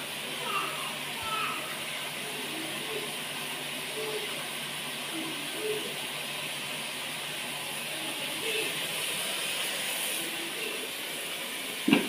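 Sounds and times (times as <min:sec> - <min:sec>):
steady hissing: 0:00.0 - 0:12.0.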